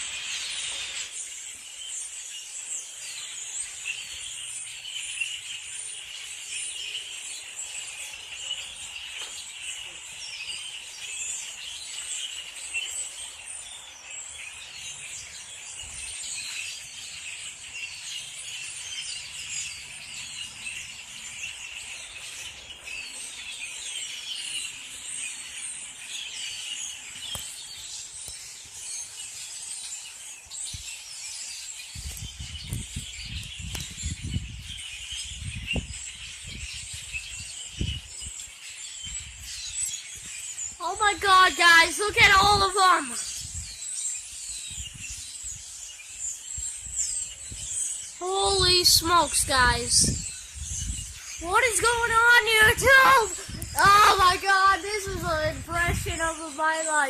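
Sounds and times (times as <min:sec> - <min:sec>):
flock of birds chirping: 0:00.0 - 0:57.0.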